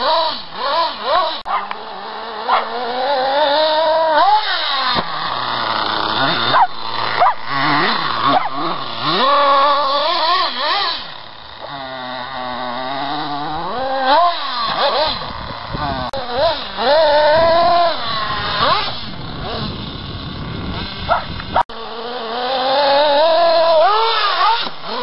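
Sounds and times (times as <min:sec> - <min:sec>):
small nitro engine revving: 0:00.0 - 0:25.0.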